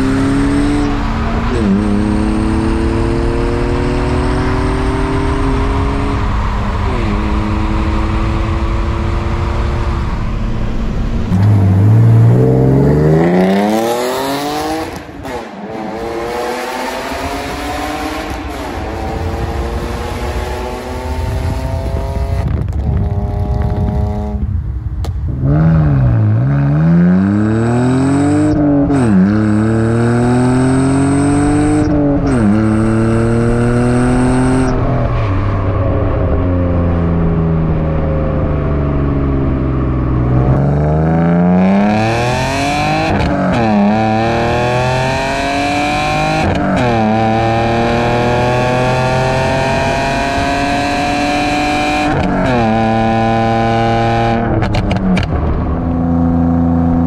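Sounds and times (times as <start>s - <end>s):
car exhaust accelerating through gears: 0.0s - 57.0s.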